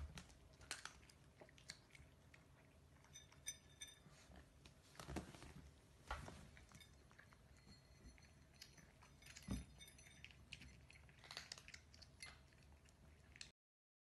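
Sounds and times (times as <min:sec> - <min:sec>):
cats eating dry kibble: 0:00.0 - 0:13.5.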